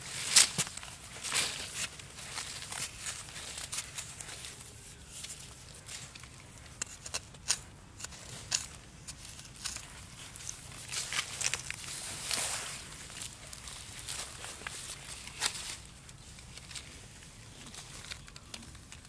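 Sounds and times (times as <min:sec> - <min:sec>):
digging in damp soil: 0:00.0 - 0:19.0.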